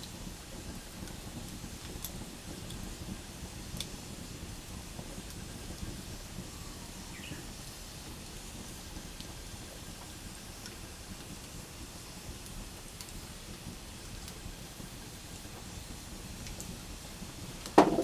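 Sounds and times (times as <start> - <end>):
campfire hissing: 0.0 - 18.0
fire crackles: 0.0 - 18.0.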